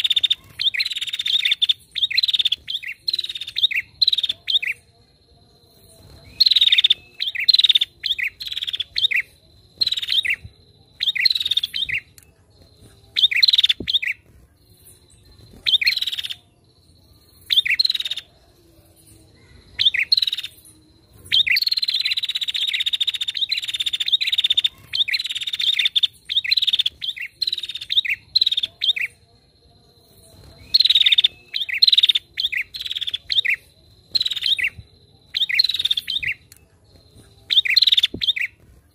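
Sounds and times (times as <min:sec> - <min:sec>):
bird chirping: 0:00.0 - 0:38.9
faint steady high tone: 0:00.0 - 0:38.9.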